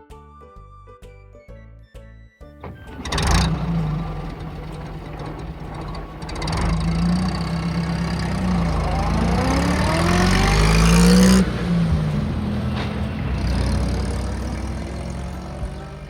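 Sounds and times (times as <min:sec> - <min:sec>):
car engine revving: 0:02.6 - 0:16.0.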